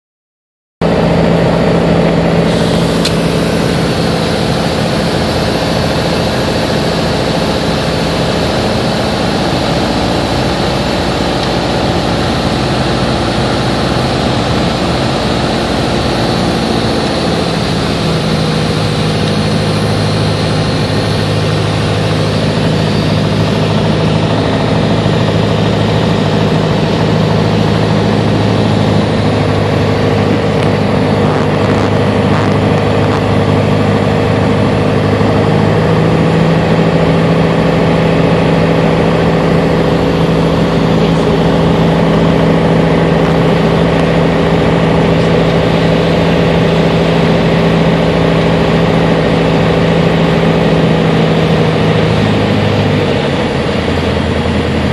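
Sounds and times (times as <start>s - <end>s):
propeller airplane engine droning: 0.8s - 54.9s.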